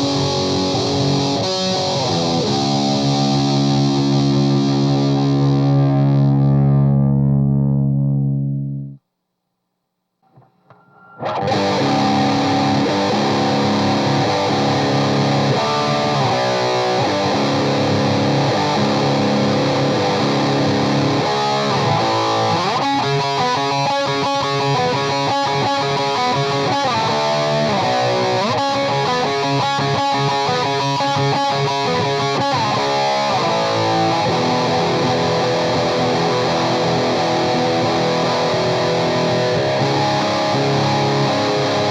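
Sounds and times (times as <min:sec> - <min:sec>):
distorted electric guitar: 0:00.0 - 0:09.0, 0:10.2 - 0:41.9.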